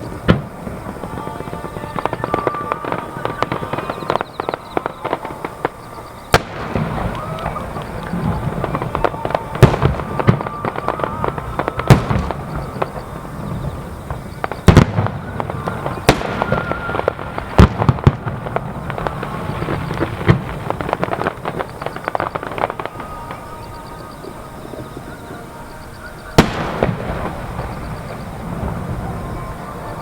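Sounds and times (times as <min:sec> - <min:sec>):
firework shell bursts: 0:00.0 - 0:25.1
crackling firework pops: 0:00.0 - 0:30.0.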